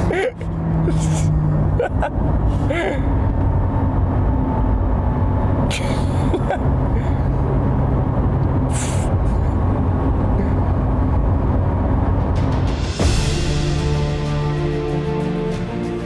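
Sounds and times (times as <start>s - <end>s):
tyre and wind rumble: 0.0s - 13.2s.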